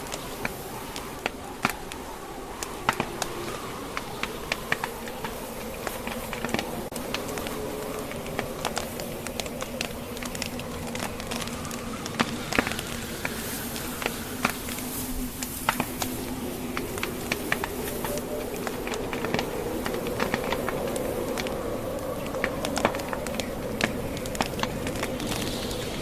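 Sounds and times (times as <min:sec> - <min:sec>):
howl of blizzard wind: 0:00.0 - 0:26.0
sharp pops from burning logs: 0:00.0 - 0:26.0
wood fire crackling: 0:00.0 - 0:26.0.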